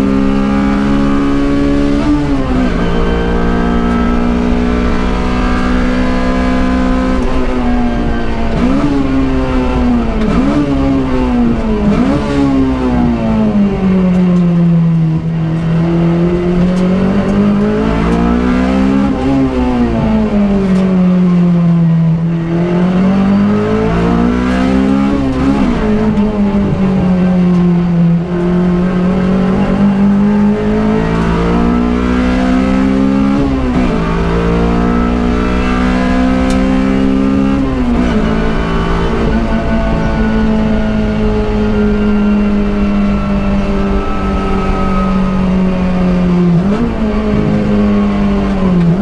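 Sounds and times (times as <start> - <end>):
car engine accelerating hard: 0.0 - 49.0.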